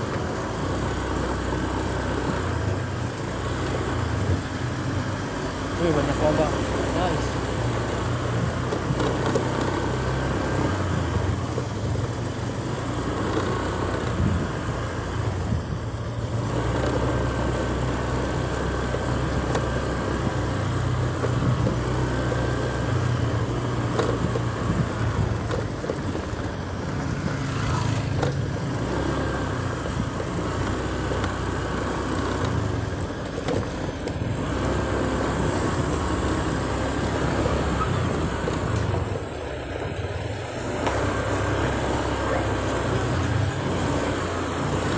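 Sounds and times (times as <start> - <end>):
vehicle engine and road rumble: 0.0 - 44.9.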